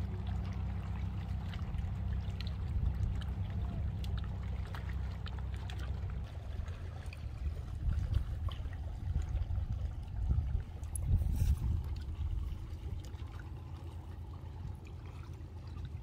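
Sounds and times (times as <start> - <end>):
cat lapping water: 0.0 - 16.0
wind rumble on microphone: 0.0 - 16.0.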